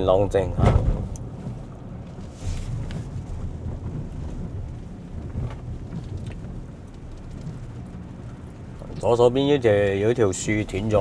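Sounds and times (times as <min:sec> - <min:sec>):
wind noise: 0:00.0 - 0:09.0
car driving slowly rumble: 0:00.0 - 0:11.0.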